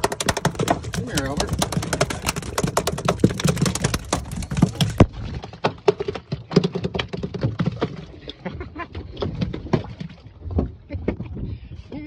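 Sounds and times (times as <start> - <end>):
fish thrashing on boat deck: 0.0 - 10.9.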